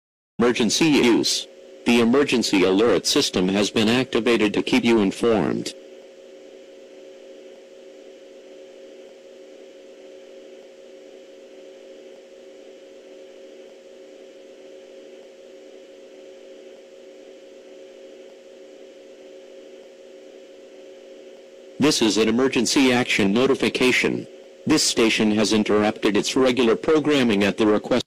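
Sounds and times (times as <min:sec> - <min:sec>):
low electronic hum: 0:00.4 - 0:28.0.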